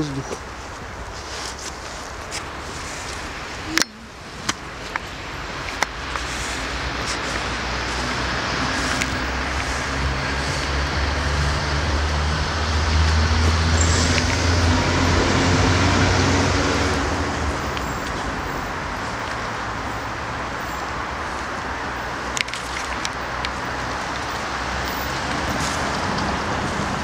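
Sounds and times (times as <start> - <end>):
car engine and road noise hum: 0.0 - 27.0.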